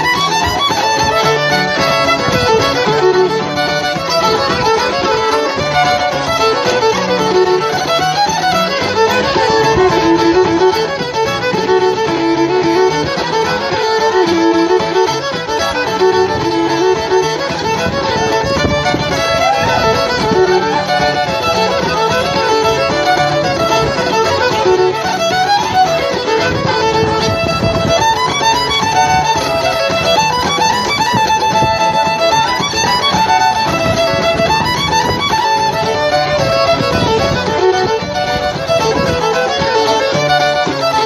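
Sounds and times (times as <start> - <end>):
fiddle playing a fast tune: 0.0 - 41.0
keyboard accompaniment: 0.0 - 41.0.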